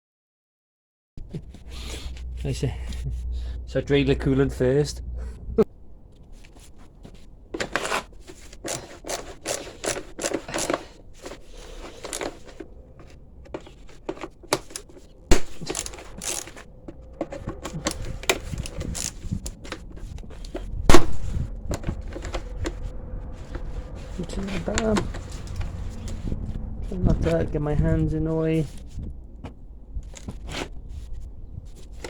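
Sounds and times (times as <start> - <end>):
hand tools scraping and clicking: 1.3 - 27.5, 28.6 - 32.0.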